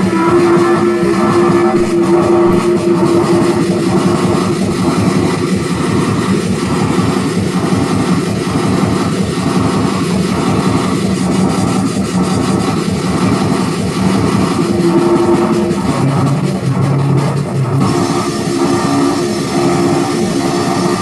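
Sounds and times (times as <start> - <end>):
faint synth sweep: 0.0 - 7.4, 11.4 - 21.0
synthesizer drone: 0.0 - 21.0.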